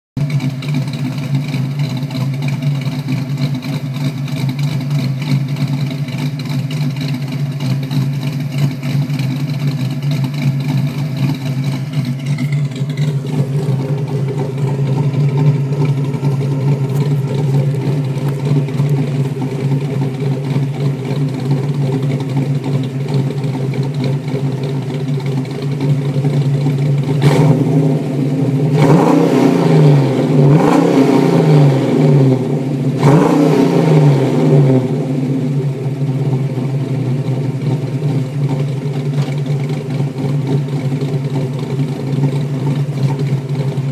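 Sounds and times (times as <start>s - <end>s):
car engine idling and revving: 0.2s - 43.9s.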